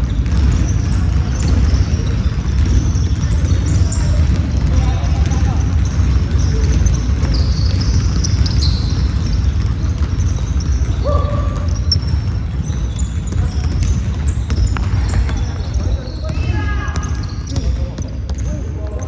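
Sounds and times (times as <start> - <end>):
basketball bouncing on court: 0.0 - 19.0
sneaker squeaks: 0.0 - 19.0.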